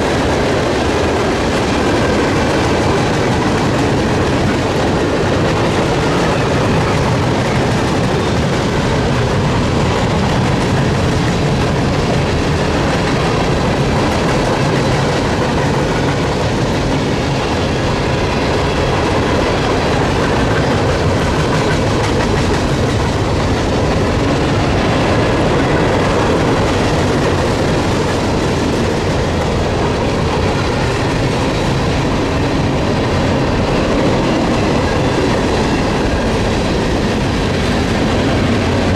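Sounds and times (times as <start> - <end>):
freight train cars rolling: 0.0 - 38.9
wheels clicking over rail joints: 0.0 - 38.9.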